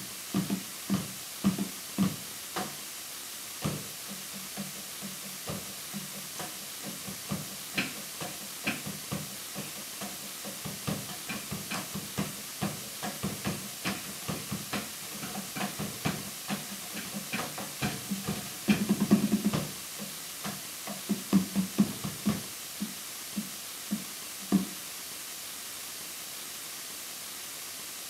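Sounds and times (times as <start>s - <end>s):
steady hiss: 0.0s - 28.0s
light taps on drum kit: 0.3s - 2.8s, 3.6s - 24.8s.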